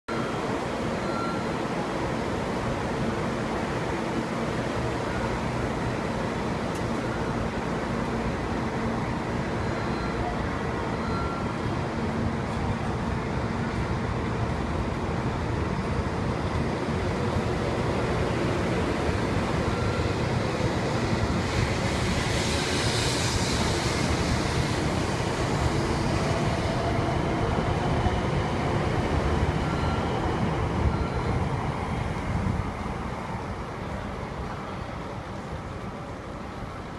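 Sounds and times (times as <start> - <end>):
train picking up speed: 0.1 - 36.9.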